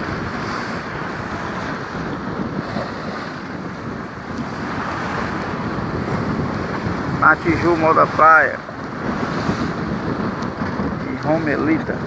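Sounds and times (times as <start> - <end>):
sea water washing around raft: 0.0 - 12.0
wind rushing over microphone: 0.0 - 12.0.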